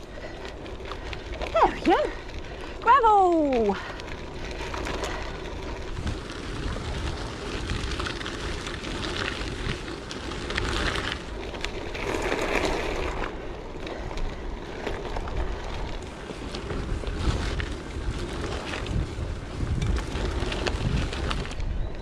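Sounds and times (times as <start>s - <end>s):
bike tyre noise: 0.0s - 22.0s
wind on microphone: 0.0s - 22.0s.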